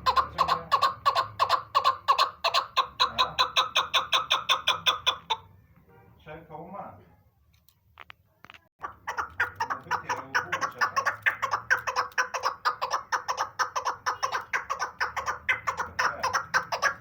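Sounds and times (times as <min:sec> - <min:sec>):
partridge chattering call: 0:00.0 - 0:05.4, 0:08.8 - 0:17.0.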